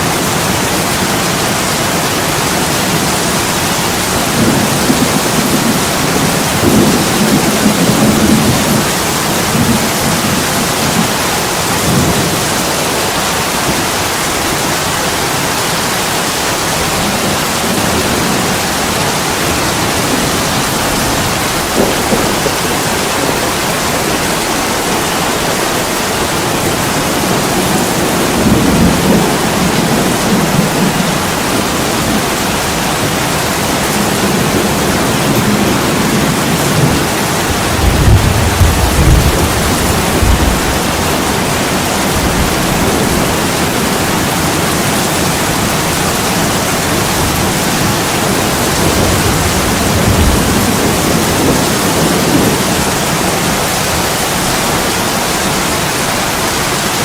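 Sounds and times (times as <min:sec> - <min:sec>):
heavy rain on a window: 0:00.0 - 0:57.0.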